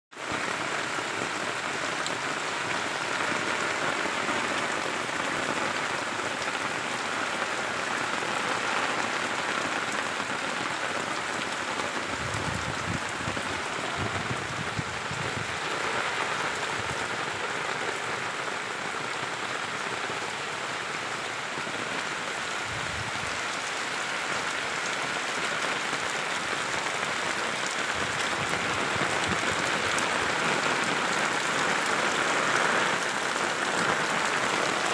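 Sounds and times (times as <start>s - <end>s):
heavy rain hissing: 0.2s - 34.9s.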